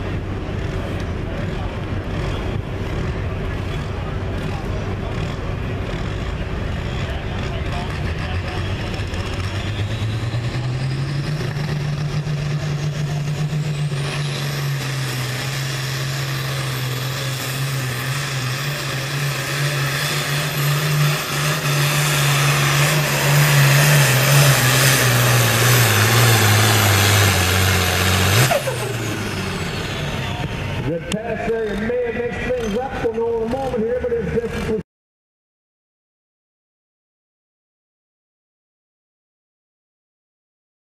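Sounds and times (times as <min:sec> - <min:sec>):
tractor diesel engine under load: 0:00.0 - 0:34.8.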